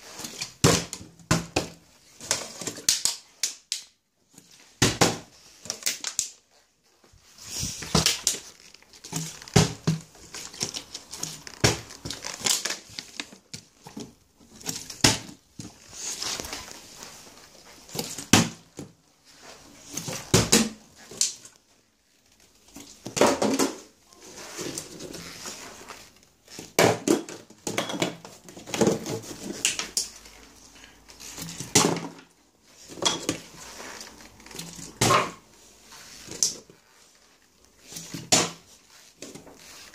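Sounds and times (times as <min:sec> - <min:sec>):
plastic bottle crinkling: 0:07.3 - 0:39.9.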